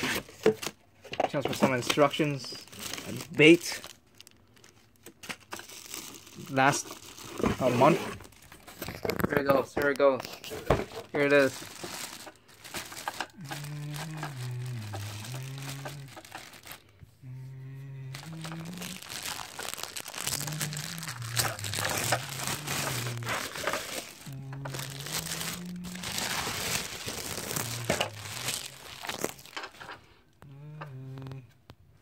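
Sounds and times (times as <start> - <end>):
packaging crinkling and rustling: 0.0 - 17.0, 17.8 - 30.1.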